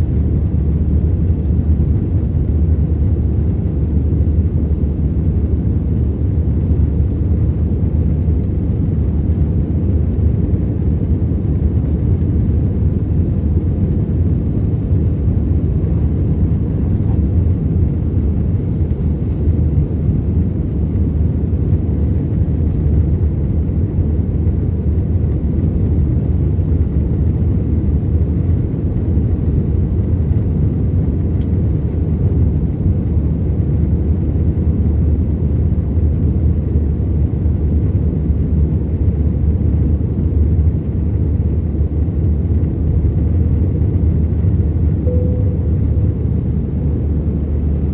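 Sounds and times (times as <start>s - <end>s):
airplane cabin rumble: 0.0s - 47.9s.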